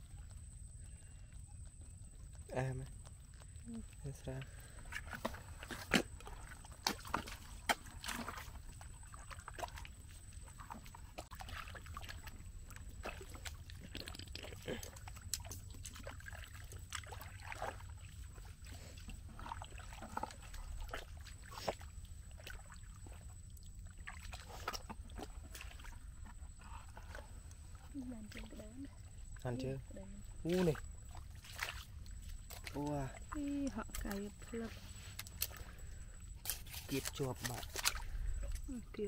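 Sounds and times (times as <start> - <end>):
boots squelching in mud: 4.3 - 28.5, 30.4 - 38.8.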